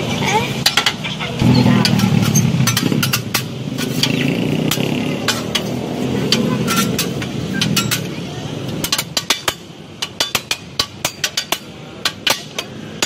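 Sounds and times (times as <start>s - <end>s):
metal utensils clinking on griddle: 0.2s - 13.0s.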